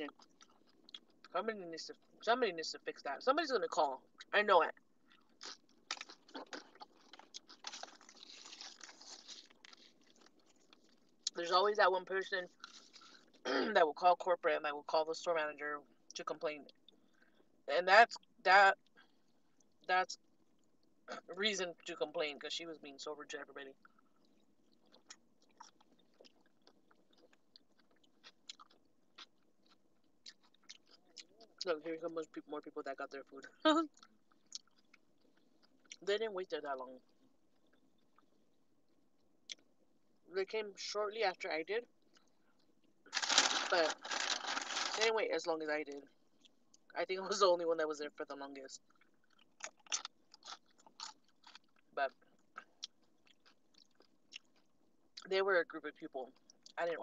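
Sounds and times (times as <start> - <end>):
chewing and crunching food: 0.0 - 2.2, 3.6 - 13.5, 15.8 - 21.9, 23.3 - 36.2, 37.0 - 40.3, 41.8 - 45.2, 45.8 - 47.5, 48.6 - 55.3, 56.3 - 57.0.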